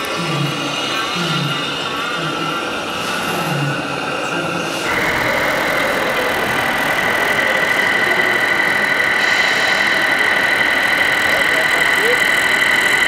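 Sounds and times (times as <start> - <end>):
model truck high-pitched whine: 0.0 - 13.0.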